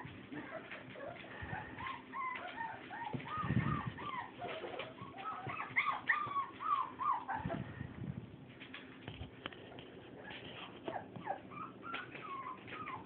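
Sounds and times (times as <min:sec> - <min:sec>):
puppies whining and squeaking: 0:00.0 - 0:08.0, 0:10.1 - 0:13.0.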